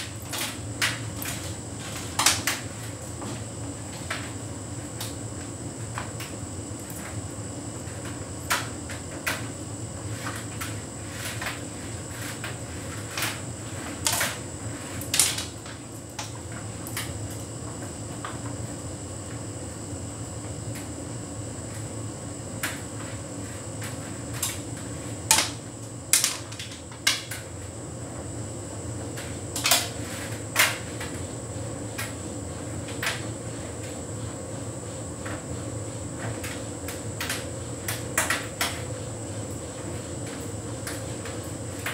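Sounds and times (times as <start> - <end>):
tumble dryer humming: 0.0 - 41.9.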